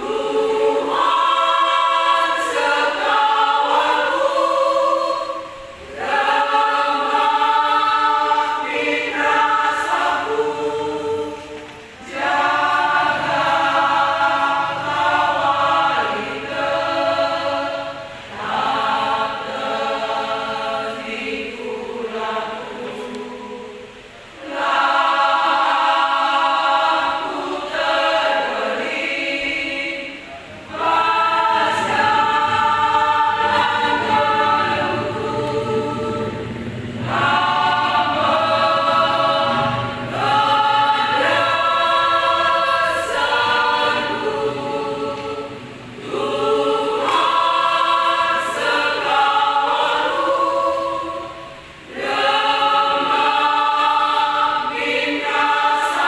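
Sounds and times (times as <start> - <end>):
women's choir singing a hymn: 0.0 - 56.0.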